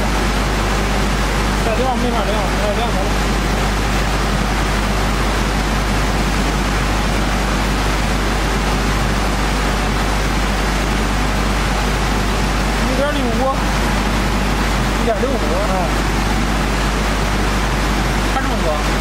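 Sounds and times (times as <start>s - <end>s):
loud machinery rushing noise: 0.0s - 19.0s
low machinery hum: 0.0s - 19.0s.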